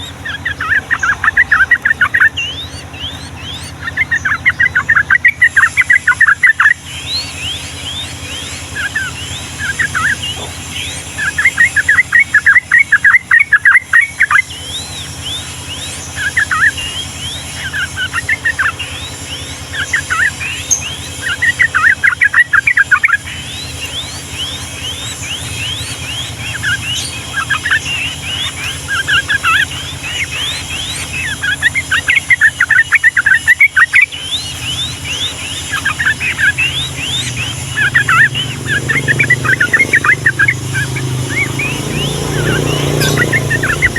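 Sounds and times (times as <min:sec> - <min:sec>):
bird singing rolling chirps: 0:00.0 - 0:43.9
steady low hum: 0:00.0 - 0:43.9.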